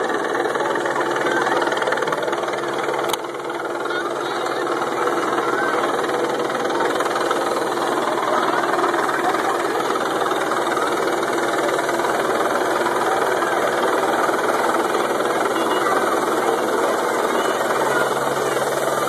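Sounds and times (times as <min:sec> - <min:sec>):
helicopter turbine and rotor: 0:00.0 - 0:19.0.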